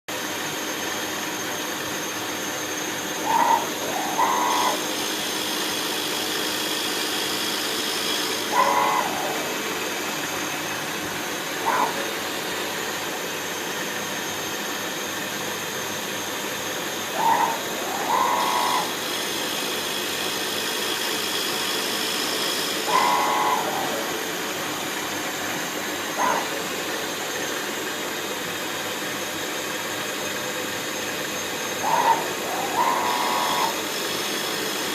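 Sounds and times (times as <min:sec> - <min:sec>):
high machine whines: 0:00.1 - 0:34.9
milling machine hissing: 0:00.1 - 0:34.9.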